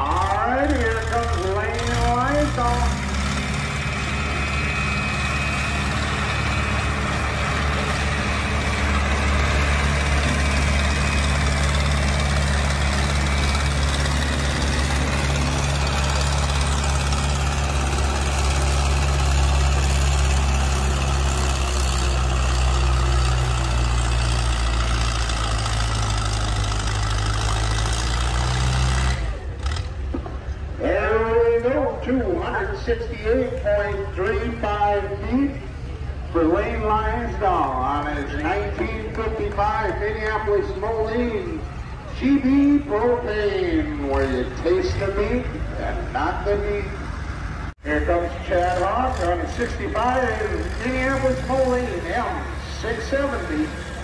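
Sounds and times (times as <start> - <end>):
tractor engine under heavy load: 0.0 - 54.0.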